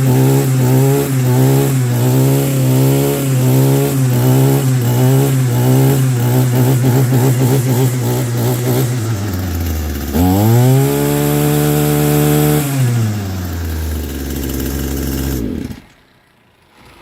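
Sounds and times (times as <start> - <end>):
string trimmer engine revving: 0.0 - 17.0.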